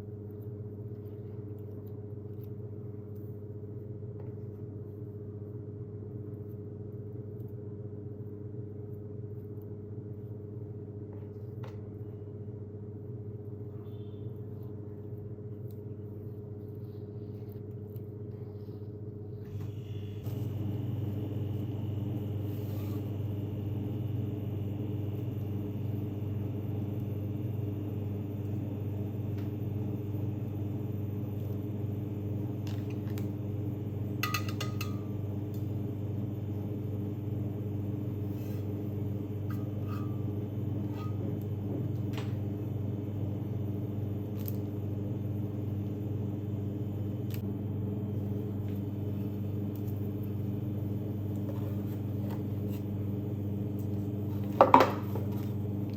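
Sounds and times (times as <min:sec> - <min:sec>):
low mechanical hum: 0:00.0 - 0:55.9.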